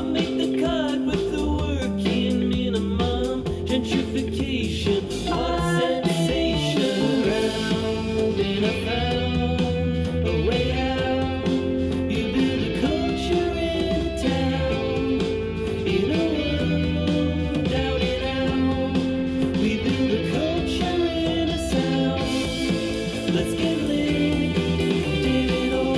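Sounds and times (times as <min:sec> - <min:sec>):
rock song through speakers: 0:00.0 - 0:25.9.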